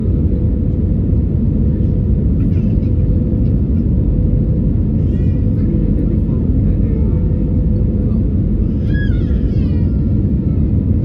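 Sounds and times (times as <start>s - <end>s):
airliner engines rumbling: 0.0s - 11.0s.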